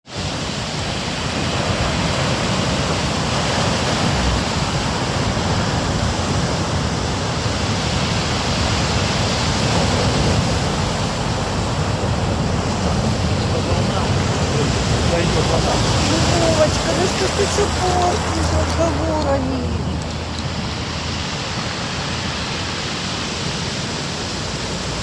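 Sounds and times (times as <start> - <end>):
stormy sea waves and surf: 0.0 - 25.0.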